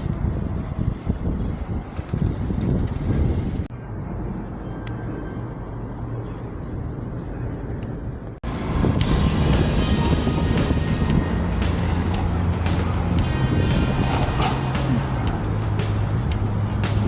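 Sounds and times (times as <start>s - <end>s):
bicycle road noise: 0.0s - 17.0s
wind rumble: 0.0s - 17.0s.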